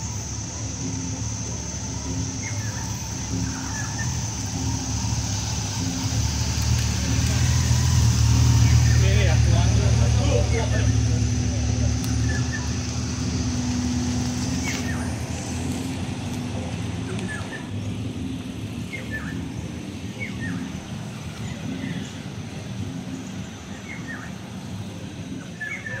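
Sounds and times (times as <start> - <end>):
cars driving slowly past: 0.0 - 26.0.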